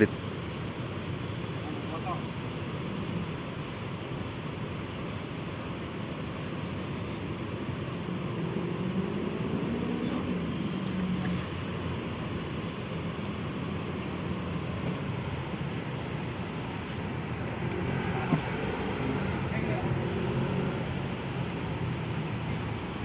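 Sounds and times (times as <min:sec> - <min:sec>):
bus diesel engine running: 0:03.4 - 0:23.0.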